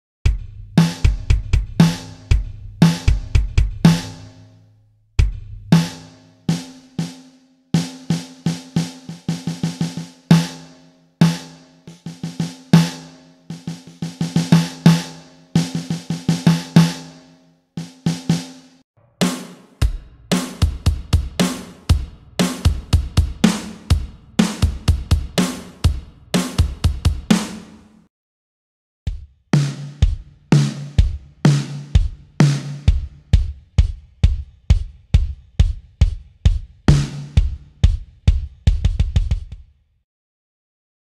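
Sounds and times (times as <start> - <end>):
drum kit playing: 0.3 - 4.4, 5.2 - 17.2, 17.8 - 28.1, 29.1 - 39.6.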